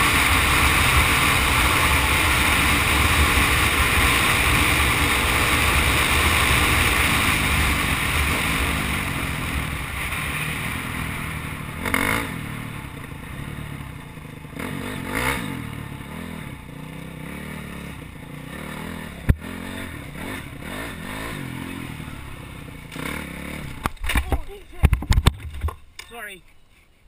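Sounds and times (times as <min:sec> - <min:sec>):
dirt bike engine: 0:00.0 - 0:26.3.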